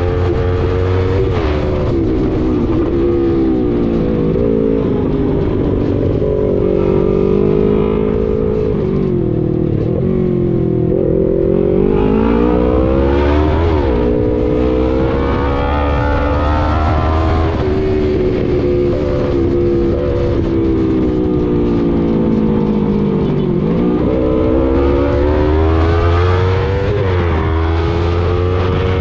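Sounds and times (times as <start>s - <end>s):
low rumble: 0.0s - 29.0s
motorcycle engine revving: 0.0s - 29.0s.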